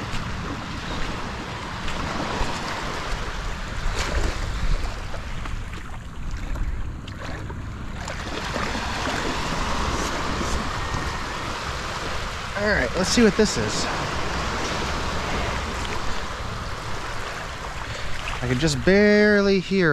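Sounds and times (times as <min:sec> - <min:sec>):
surf washing on sand: 0:00.0 - 0:06.6, 0:07.2 - 0:19.9
wind on microphone: 0:00.0 - 0:18.5.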